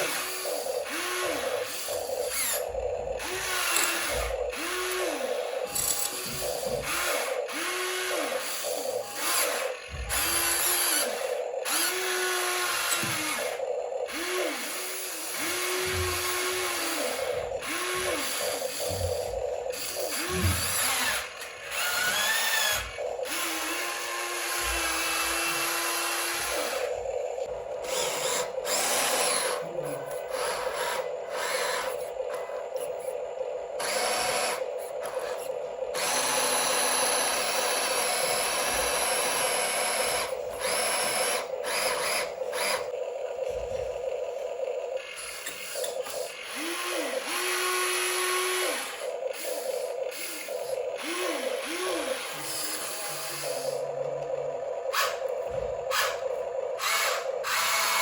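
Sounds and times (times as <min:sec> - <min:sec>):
small electric motor whining: 0:00.0 - 0:58.0
steady hum: 0:00.0 - 0:58.0.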